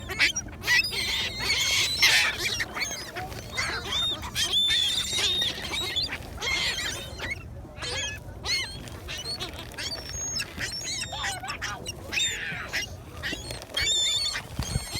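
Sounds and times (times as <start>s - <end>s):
gulls calling: 0.0s - 14.9s.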